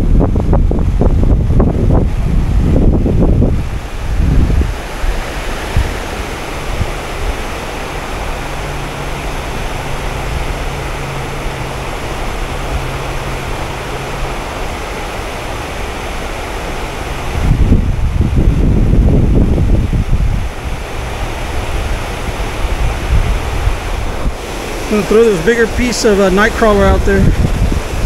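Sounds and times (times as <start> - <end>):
steady rushing hiss: 0.0 - 28.0.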